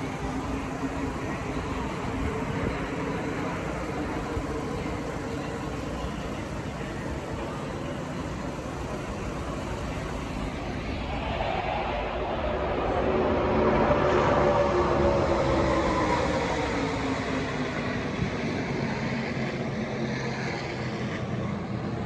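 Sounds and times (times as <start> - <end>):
race truck engines droning: 0.0 - 22.0.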